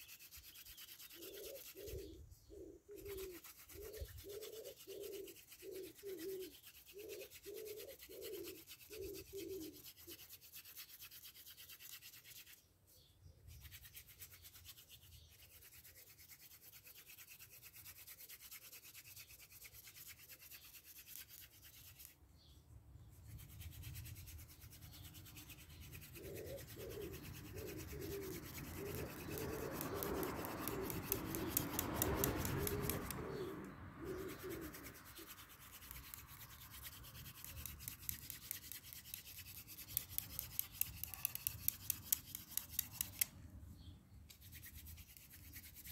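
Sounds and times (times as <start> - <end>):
wooden spindle rubbing on wood: 0.0 - 12.6, 13.5 - 22.2, 23.2 - 43.3, 44.3 - 45.9.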